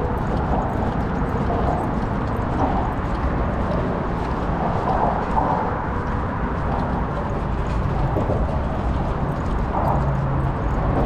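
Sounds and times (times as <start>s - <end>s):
bridge traffic: 0.0s - 11.0s
dog footsteps: 0.0s - 11.0s
wind rumble: 0.0s - 11.0s.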